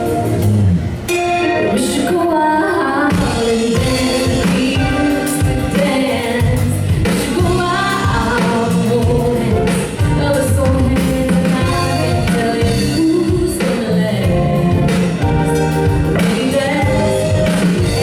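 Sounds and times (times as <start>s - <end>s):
bass line: 0.0s - 2.2s, 3.2s - 18.0s
instrumental accompaniment: 0.0s - 18.0s
person singing: 1.1s - 18.0s.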